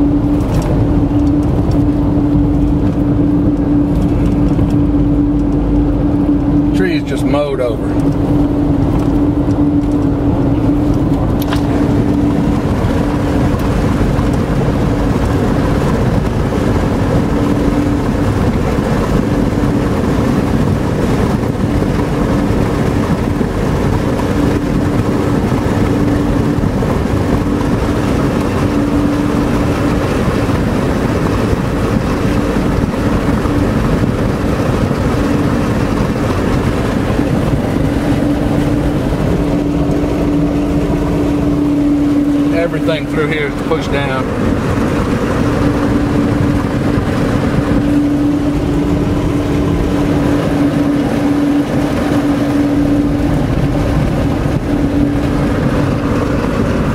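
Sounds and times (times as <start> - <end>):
engine and tyre rumble: 0.0 - 56.9
steady hum: 0.0 - 56.9.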